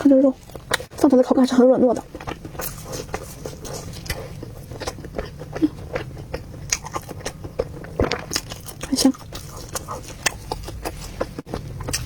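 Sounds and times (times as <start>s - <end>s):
person chewing with mouth clicks: 0.4s - 1.0s, 2.0s - 12.0s.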